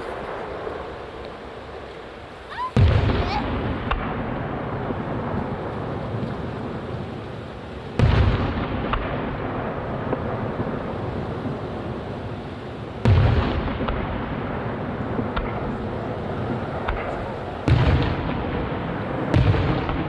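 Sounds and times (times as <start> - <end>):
firework shells booming: 0.0 - 20.0
steady background rumble: 0.0 - 20.0.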